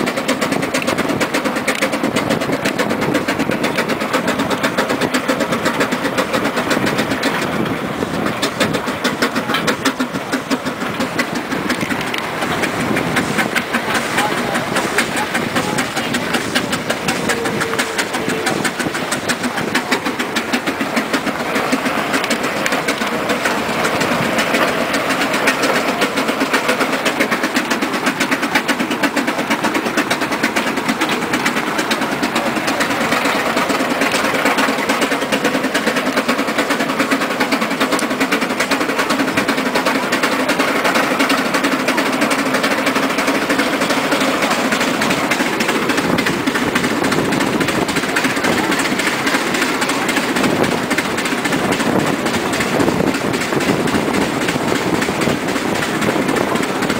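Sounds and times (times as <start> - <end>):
steam engine beating: 0.0 - 56.9
tyre road noise: 0.0 - 56.9.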